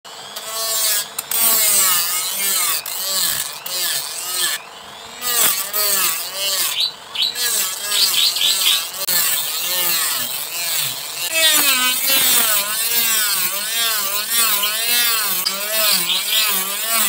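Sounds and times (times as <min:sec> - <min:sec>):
rotary tool sanding wood: 0:00.1 - 0:17.0.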